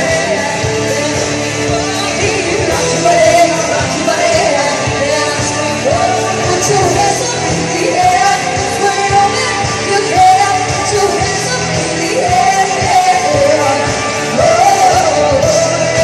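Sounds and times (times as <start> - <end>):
person singing rock song: 0.0 - 16.0
steady drum beat: 0.0 - 16.0.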